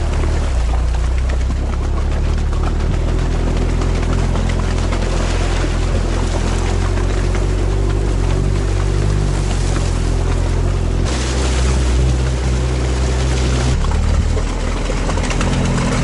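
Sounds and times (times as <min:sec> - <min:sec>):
vehicle engine running: 0:00.0 - 0:16.0
water rushing and splashing: 0:00.0 - 0:16.0.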